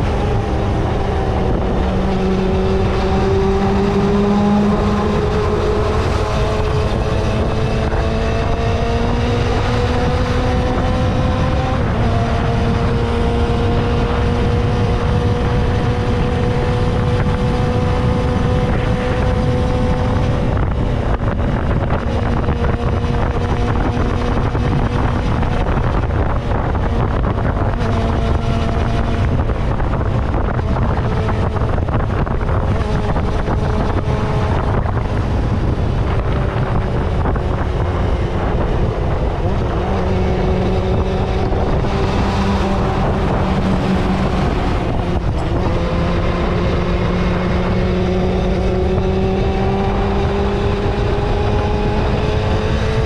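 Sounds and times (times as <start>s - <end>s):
motorcycle engine accelerating: 0.0s - 53.0s
wind on microphone: 0.0s - 53.0s.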